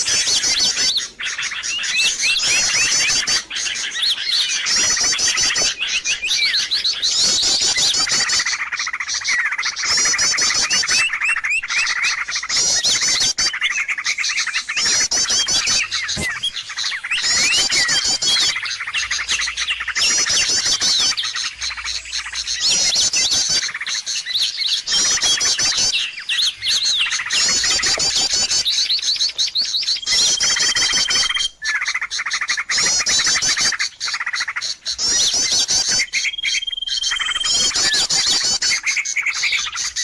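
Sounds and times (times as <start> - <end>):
songbirds chattering: 0.0 - 40.0.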